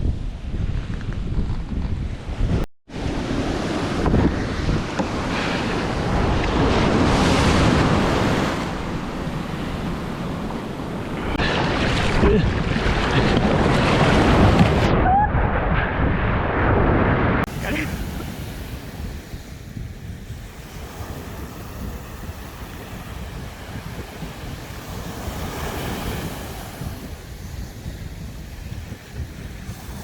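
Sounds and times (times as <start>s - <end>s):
wind buffeting microphone: 0.0s - 30.0s
breaking surf: 2.9s - 30.0s.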